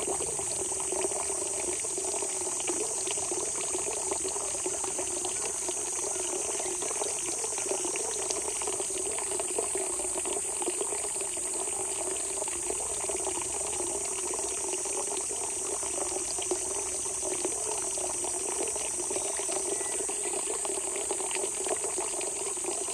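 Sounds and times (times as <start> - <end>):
water gushing: 0.0 - 22.9.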